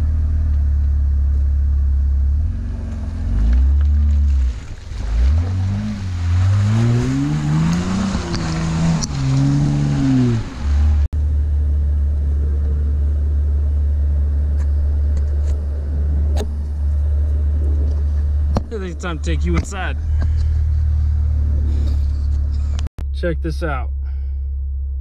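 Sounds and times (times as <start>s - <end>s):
car engine revving: 0.0s - 22.9s
steady low rumble: 0.0s - 25.0s.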